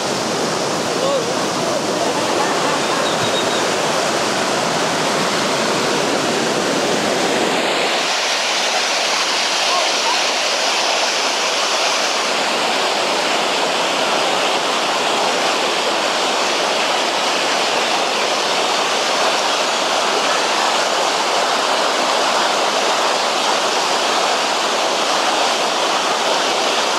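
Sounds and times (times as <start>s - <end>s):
river rapids rushing: 0.0s - 26.9s.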